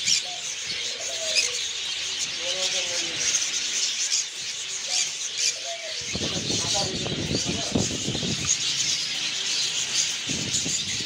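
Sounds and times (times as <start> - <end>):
caged birds chirping and squawking: 0.0 - 11.0
lower bird calls: 0.0 - 11.0.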